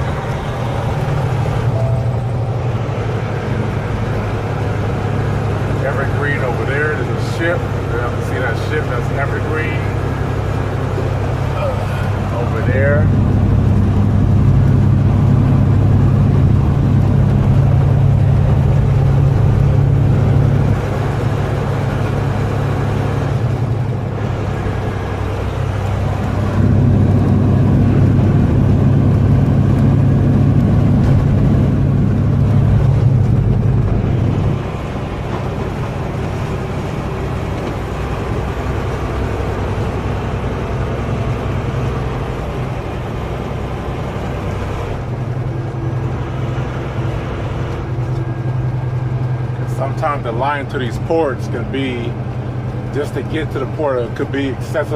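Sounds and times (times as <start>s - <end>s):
truck diesel engine droning: 0.0s - 54.9s.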